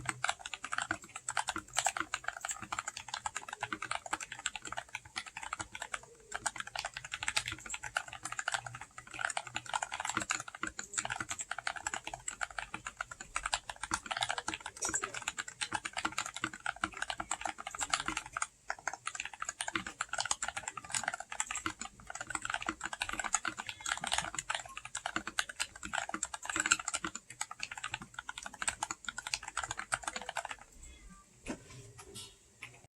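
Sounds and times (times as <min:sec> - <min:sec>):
mechanical keyboard typing: 0:00.0 - 0:30.8.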